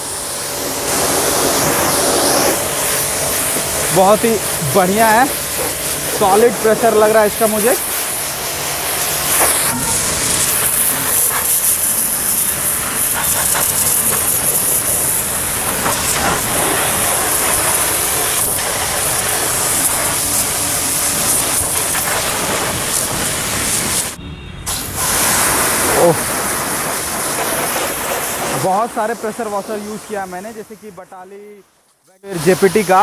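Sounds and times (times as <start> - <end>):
pressure washer water jet hissing: 0.0 - 33.0.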